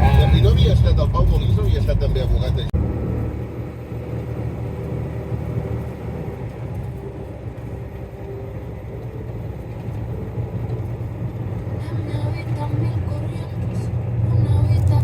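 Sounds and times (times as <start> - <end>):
road noise: 0.0 - 15.0
truck cab engine rumble: 0.0 - 15.0.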